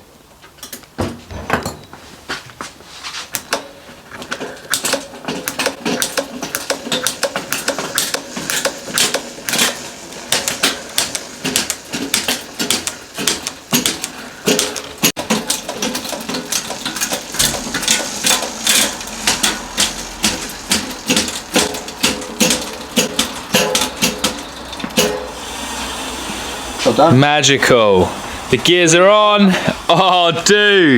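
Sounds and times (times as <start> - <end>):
bike gears clicking: 3.3 - 30.2.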